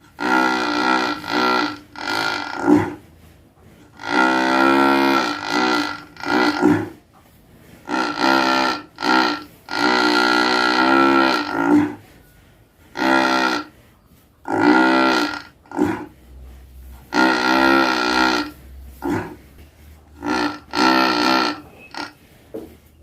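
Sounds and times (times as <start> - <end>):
cow snoring: 0.0 - 22.8.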